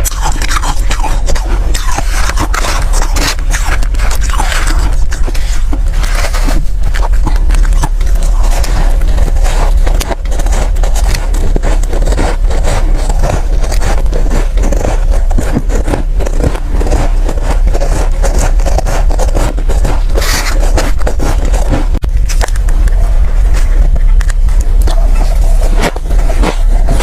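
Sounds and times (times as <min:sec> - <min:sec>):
chewing and crunching ice: 0:00.0 - 0:27.0.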